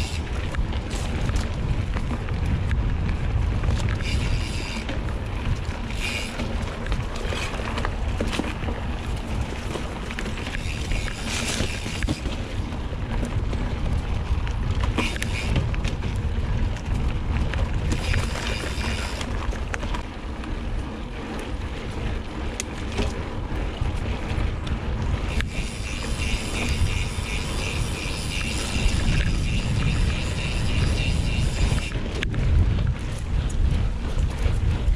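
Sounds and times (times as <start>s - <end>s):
mountain bike rumble and rattle: 0.0s - 34.9s
wind buffeting microphone: 0.0s - 34.9s.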